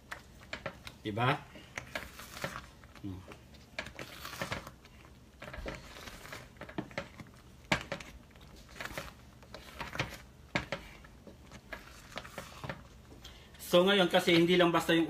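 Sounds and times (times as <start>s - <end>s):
thick mixture simmering: 0.0s - 14.3s.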